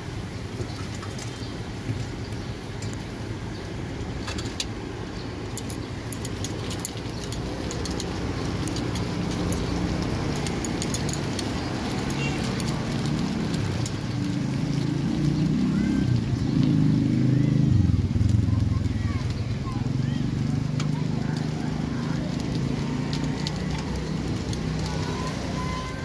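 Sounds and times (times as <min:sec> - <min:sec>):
low engine rumble: 0:00.0 - 0:26.0
motor traffic: 0:00.0 - 0:26.0.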